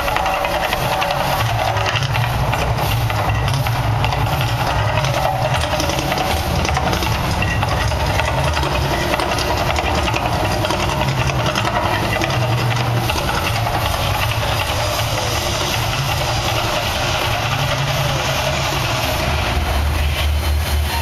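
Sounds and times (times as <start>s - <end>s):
deep rumble: 0.0s - 21.0s
gas flames hissing: 0.0s - 21.0s.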